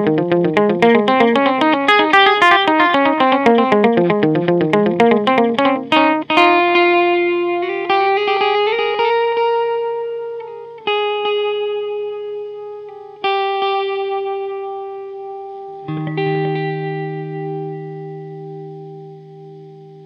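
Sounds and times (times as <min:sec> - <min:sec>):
clean electric guitar with echo: 0:00.0 - 0:20.0.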